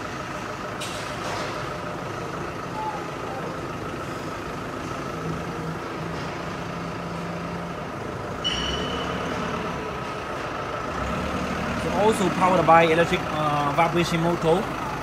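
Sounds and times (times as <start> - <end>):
factory machinery hum: 0.0 - 15.0.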